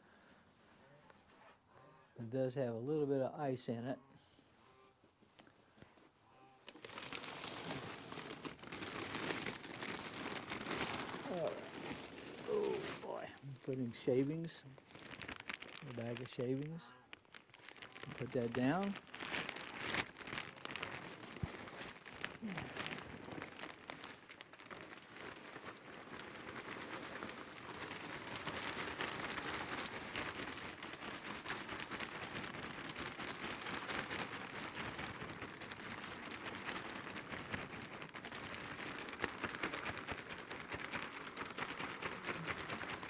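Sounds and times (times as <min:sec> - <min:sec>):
wood shavings rustling: 0:06.7 - 0:43.0.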